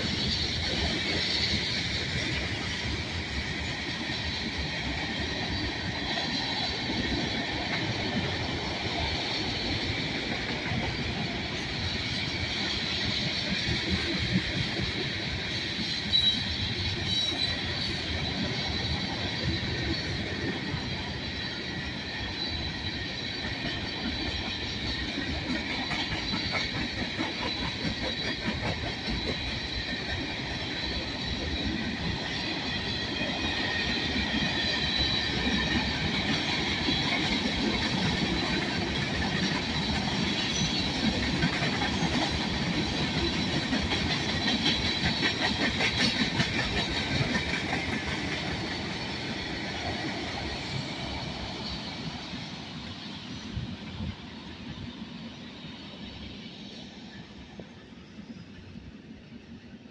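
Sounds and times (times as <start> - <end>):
freight cars rumbling on rail: 0.0 - 59.6.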